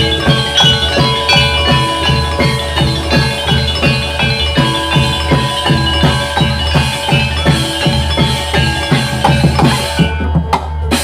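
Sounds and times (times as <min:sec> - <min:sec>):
metallophones ringing: 0:00.0 - 0:11.0.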